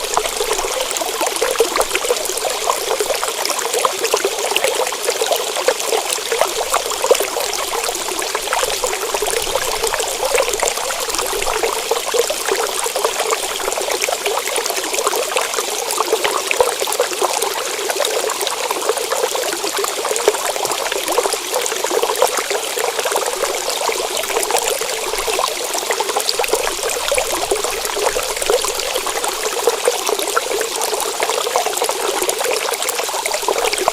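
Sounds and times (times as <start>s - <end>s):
water trickling: 0.0s - 33.9s.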